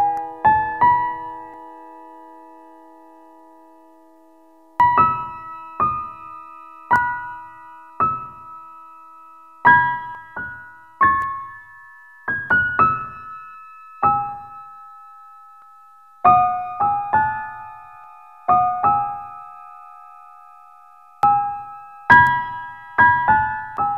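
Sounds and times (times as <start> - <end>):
slow piano music: 0.0 - 23.9.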